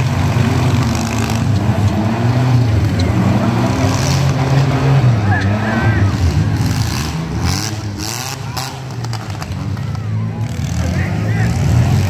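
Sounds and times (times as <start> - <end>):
car engines revving: 0.0 - 12.0
crowd voices: 0.0 - 12.0.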